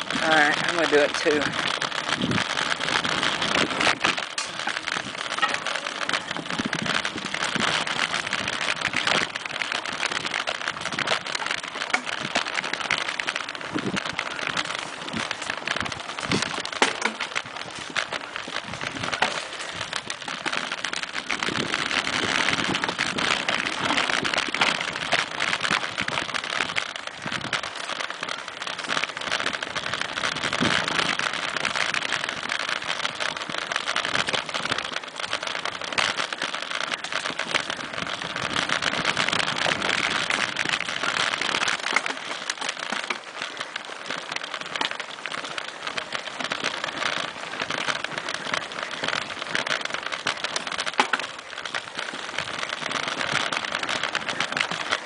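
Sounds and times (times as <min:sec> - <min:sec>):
bike knocking over bumps: 0:00.0 - 0:55.0
bike tyres crackling over grit: 0:00.0 - 0:55.0.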